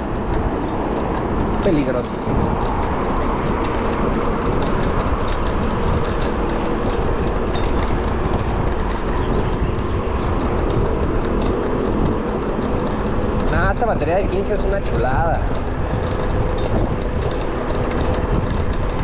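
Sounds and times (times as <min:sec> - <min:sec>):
city traffic: 0:00.0 - 0:19.0
road noise: 0:00.0 - 0:19.0
wind rushing: 0:00.0 - 0:19.0.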